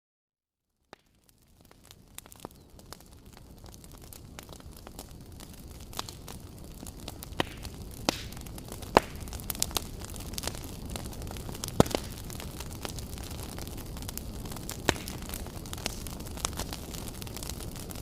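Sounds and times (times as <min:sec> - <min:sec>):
wood campfire crackling: 0:00.9 - 0:18.0.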